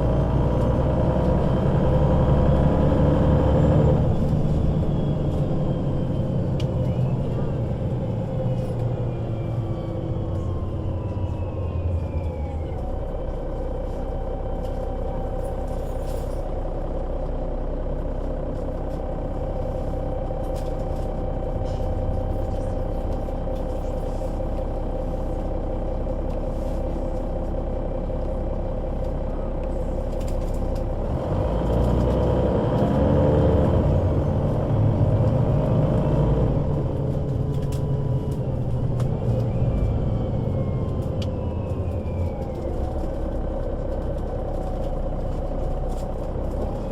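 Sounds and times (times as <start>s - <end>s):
bus engine drone: 0.0s - 46.9s.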